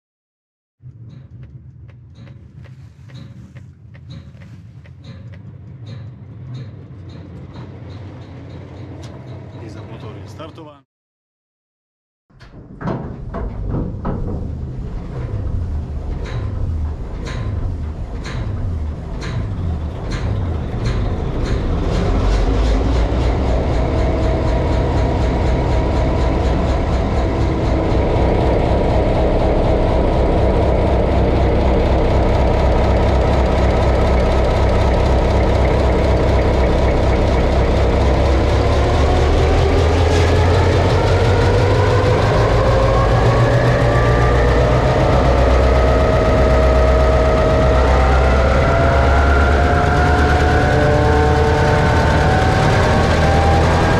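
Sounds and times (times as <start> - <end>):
diesel locomotive engine starting: 0.8 - 10.8, 12.3 - 53.9.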